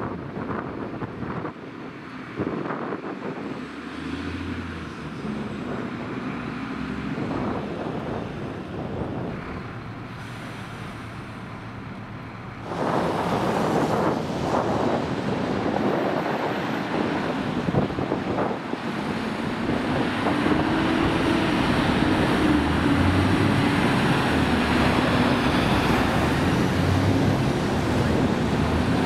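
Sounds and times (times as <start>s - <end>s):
wind buffeting microphone: 0.0s - 29.0s
crane diesel engine running: 4.9s - 29.0s.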